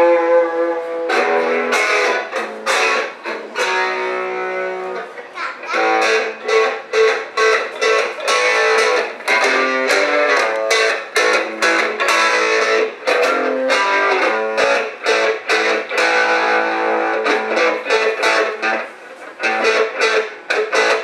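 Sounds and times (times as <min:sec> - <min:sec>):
electric guitar through small amp: 0:00.0 - 0:21.0.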